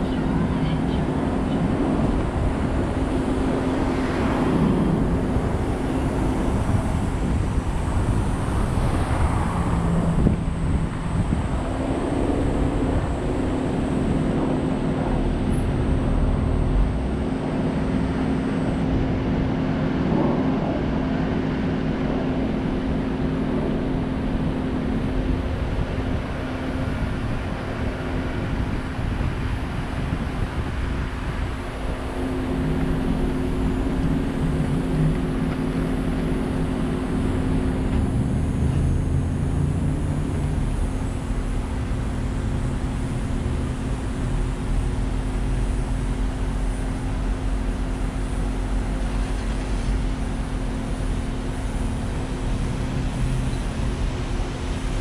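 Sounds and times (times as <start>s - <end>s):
car engine humming: 0.0s - 55.0s
tyre and road noise: 0.0s - 55.0s.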